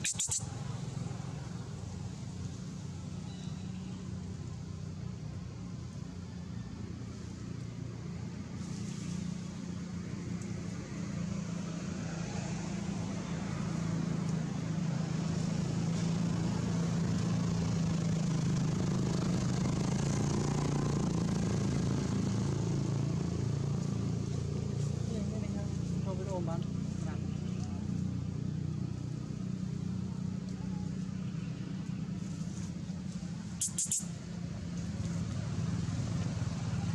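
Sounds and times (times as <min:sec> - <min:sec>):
vehicle engine hum: 0:00.0 - 0:36.9.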